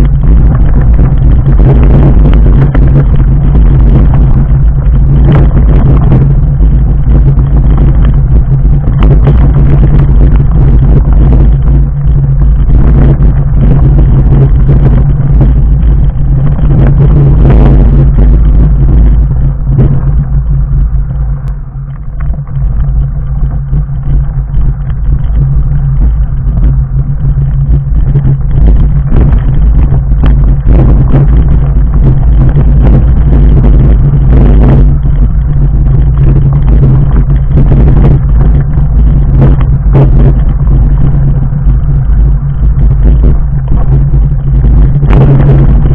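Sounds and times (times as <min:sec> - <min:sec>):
bike tyres rumbling on gravel: 0:00.0 - 0:45.9.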